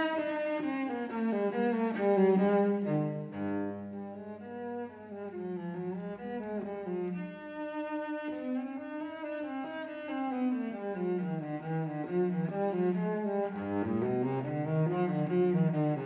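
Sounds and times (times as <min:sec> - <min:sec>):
slow cello melody: 0:00.0 - 0:16.0.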